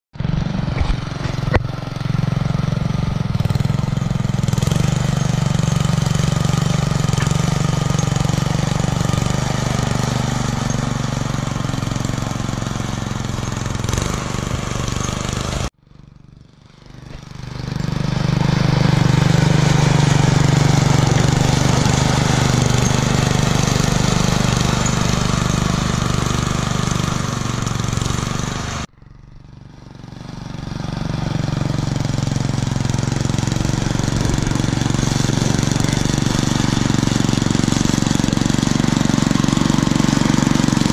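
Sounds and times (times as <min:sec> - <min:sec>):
small engine throbbing: 0:00.2 - 0:40.9.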